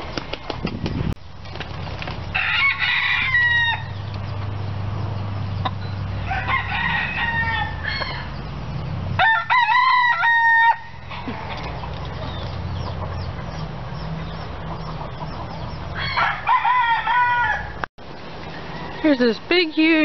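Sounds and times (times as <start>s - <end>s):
roosters crowing: 2.0s - 19.5s.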